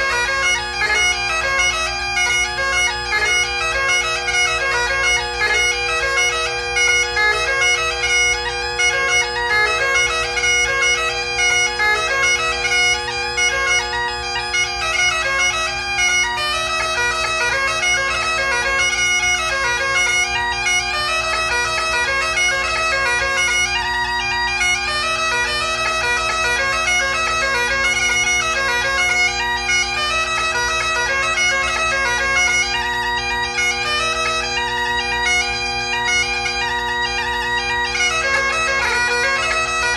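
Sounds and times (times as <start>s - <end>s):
bagpipe playing a tune: 0.0s - 39.9s.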